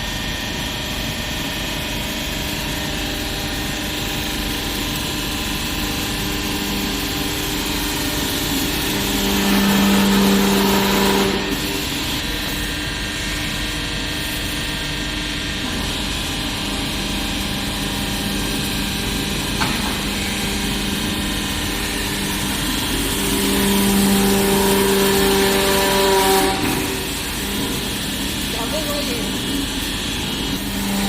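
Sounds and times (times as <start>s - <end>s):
hydraulic pump humming: 0.0s - 31.0s.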